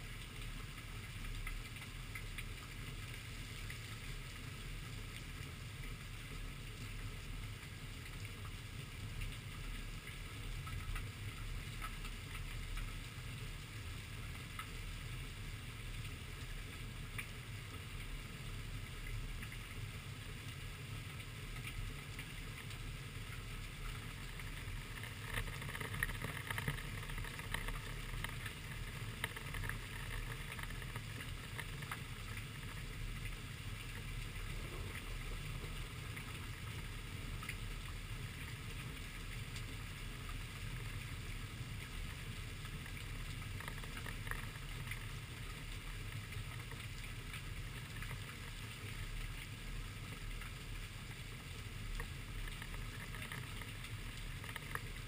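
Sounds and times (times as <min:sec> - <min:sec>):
raindrops tapping camera: 0:00.0 - 0:55.0
steady rain falling: 0:00.0 - 0:55.0.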